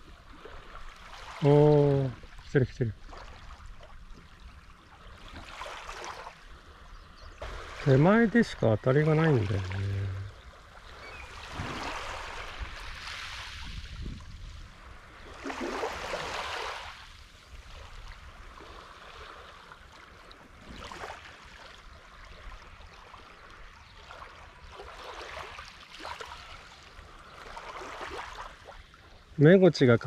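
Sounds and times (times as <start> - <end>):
small waves washing on shore: 0.0 - 29.5.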